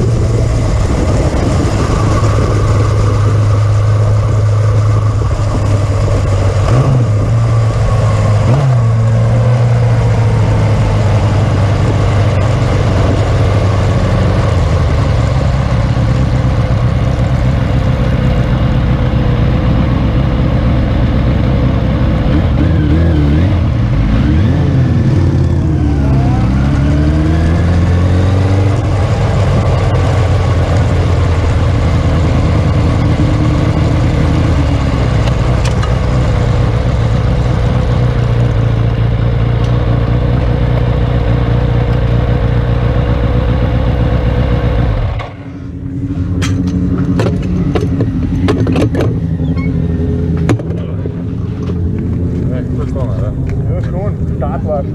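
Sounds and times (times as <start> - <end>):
motorcycle engines droning: 0.0 - 54.9
motorcycles revving and passing: 0.0 - 54.9.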